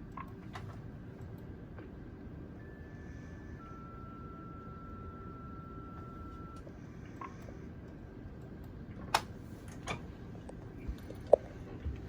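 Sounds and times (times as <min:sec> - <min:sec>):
low steady background hum: 0:00.0 - 0:12.0.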